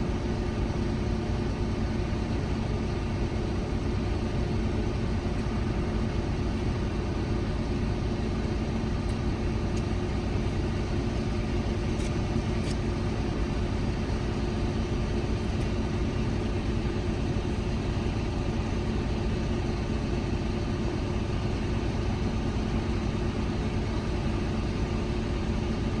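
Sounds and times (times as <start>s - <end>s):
truck diesel engine idling: 0.0s - 26.0s.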